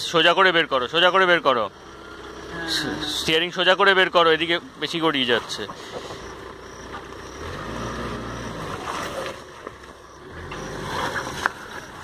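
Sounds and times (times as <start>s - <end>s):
diesel engine pulling through mud: 0.0s - 12.0s
tyres churning through mud: 0.0s - 12.0s.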